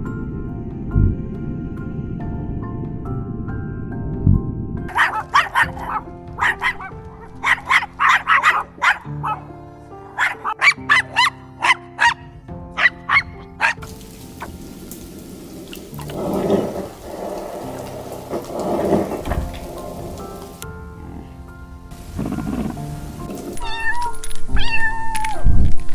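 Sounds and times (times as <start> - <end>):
background music: 0.0 - 25.9.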